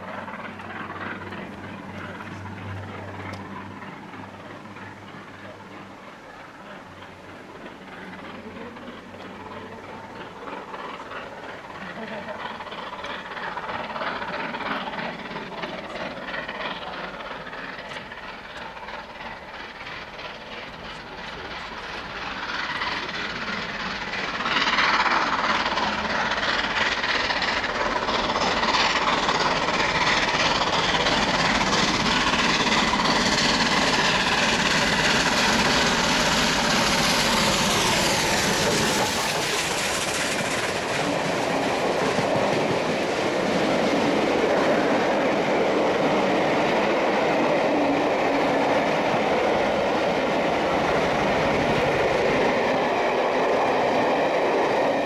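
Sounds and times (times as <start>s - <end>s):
steam locomotive passing: 0.0s - 55.0s
train wheels clattering over rails: 0.0s - 55.0s.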